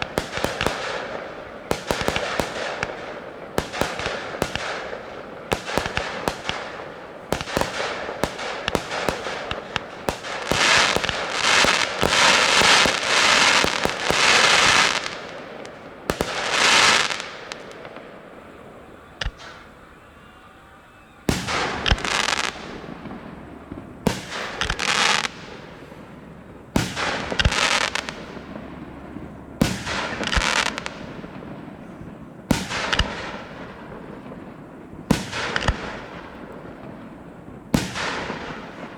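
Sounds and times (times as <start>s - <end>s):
firework hissing: 0.0s - 36.4s
firework shells bursting with bangs: 0.0s - 38.9s.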